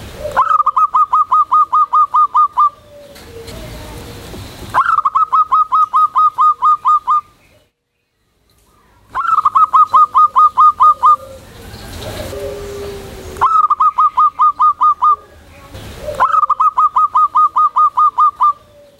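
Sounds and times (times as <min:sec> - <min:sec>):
dove singing rapid notes: 0:00.0 - 0:03.9, 0:04.7 - 0:07.6, 0:09.0 - 0:18.9.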